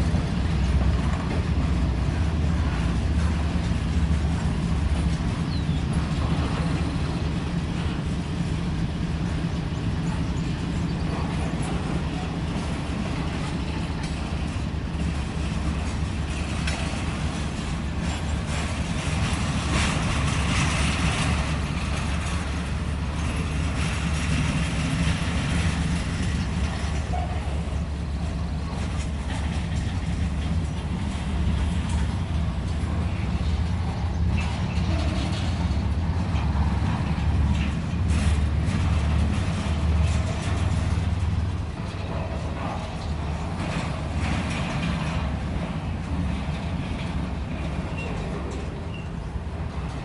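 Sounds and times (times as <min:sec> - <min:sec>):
freight cars clanking and rattling: 0:00.0 - 0:50.0
steel wheels rumbling on rail: 0:00.0 - 0:50.0.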